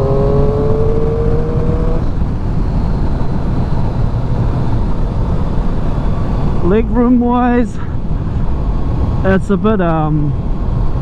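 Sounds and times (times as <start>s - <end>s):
rising whine: 0.0s - 9.3s
wind rush on microphone: 0.0s - 11.0s.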